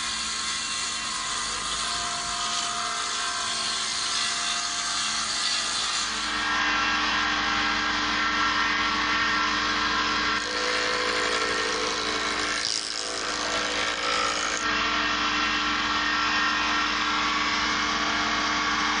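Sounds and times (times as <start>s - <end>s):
woodworking machine whirring: 0.0s - 19.0s.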